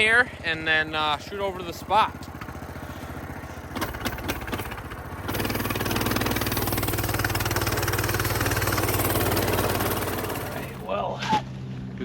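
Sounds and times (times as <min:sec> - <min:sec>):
small engine idling: 0:00.0 - 0:10.9.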